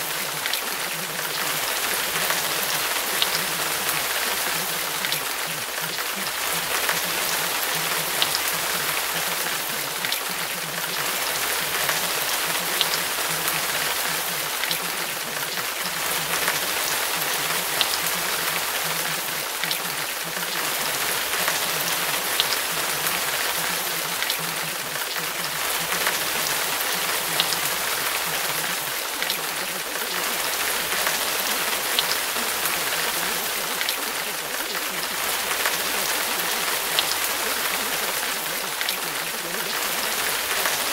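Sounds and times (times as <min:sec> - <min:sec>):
rain patter: 0:00.0 - 0:40.9.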